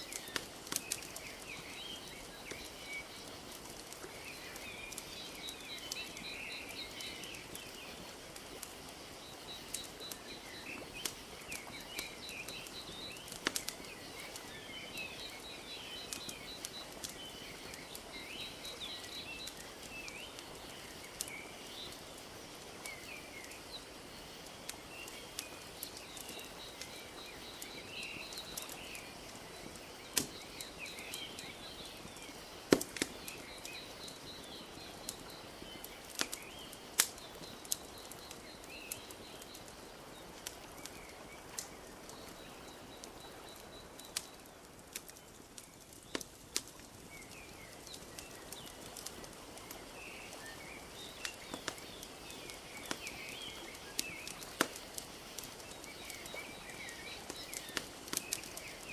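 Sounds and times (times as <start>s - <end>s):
birds chirping: 0.0s - 58.9s
wood fire crackling and popping: 0.0s - 58.9s.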